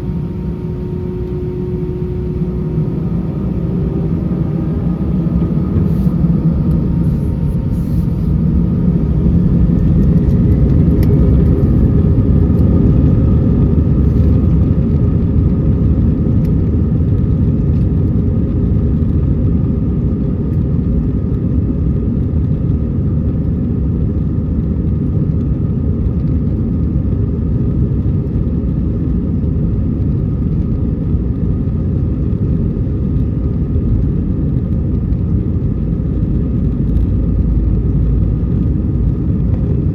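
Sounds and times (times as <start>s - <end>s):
faint engine whine: 0.0s - 39.9s
jet engine rumble in cabin: 0.0s - 39.9s.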